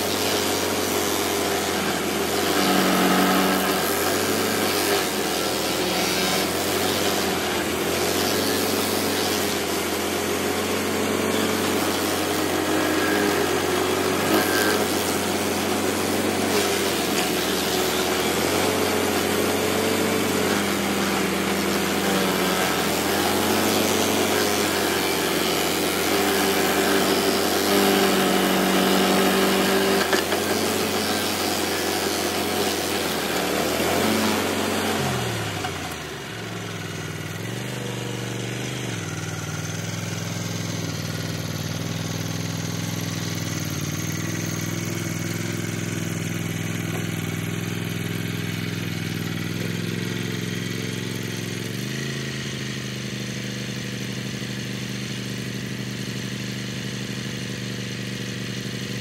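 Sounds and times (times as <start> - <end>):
cutter wheel grinding stump: 0.0 - 59.0
stump grinder engine running: 0.0 - 59.0.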